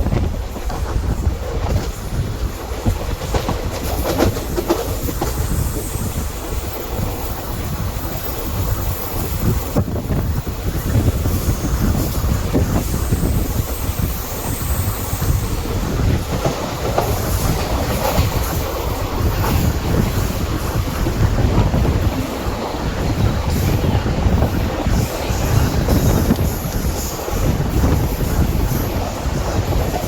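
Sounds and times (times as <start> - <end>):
low train rumble: 0.0 - 30.0
train wheels clattering: 0.0 - 30.0.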